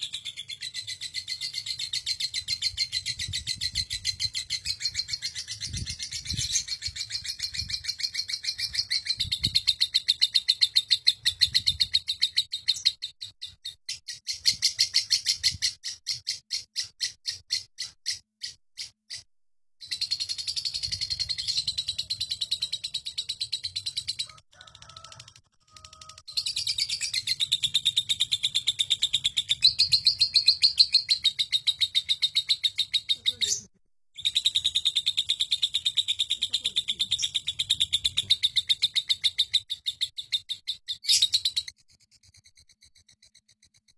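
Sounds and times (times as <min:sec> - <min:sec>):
lovebird chattering trill: 0:00.0 - 0:19.2, 0:19.8 - 0:24.3, 0:25.9 - 0:43.1.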